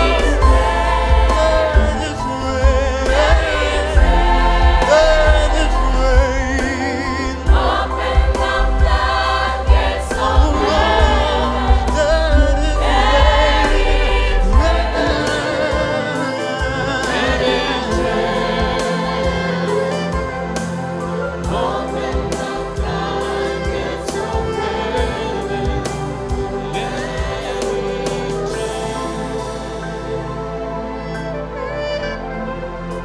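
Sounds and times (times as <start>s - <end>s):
band with heavy bass: 0.0s - 31.4s
choir singing: 0.0s - 33.0s.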